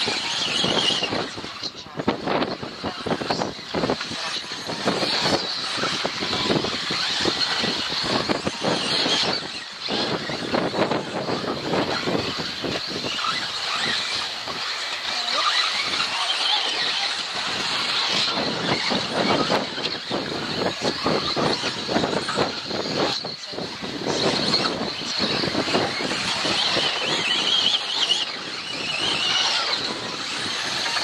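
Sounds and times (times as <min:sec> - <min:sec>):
high whine of rc cars: 0:00.0 - 0:31.0.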